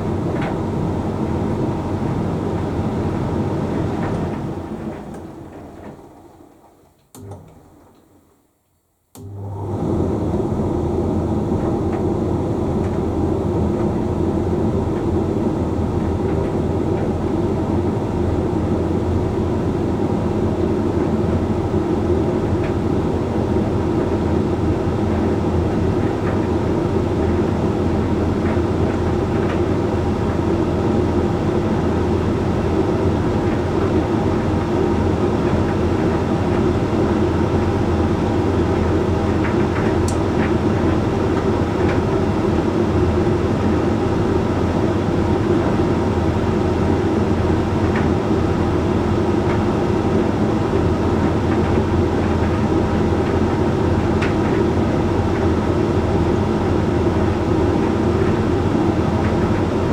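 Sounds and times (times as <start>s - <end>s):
tumble dryer running: 0.0s - 8.1s, 9.2s - 59.9s.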